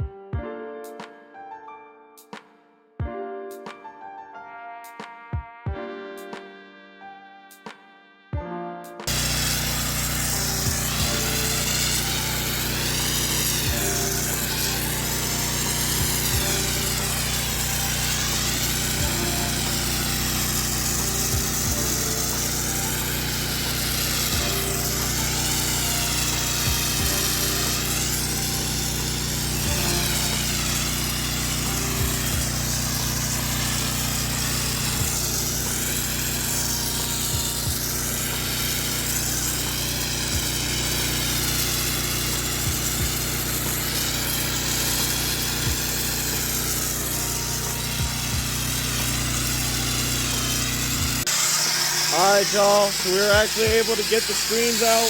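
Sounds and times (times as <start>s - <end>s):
high-pressure water spray hiss: 9.1s - 55.0s
pressure washer engine running: 9.1s - 55.0s.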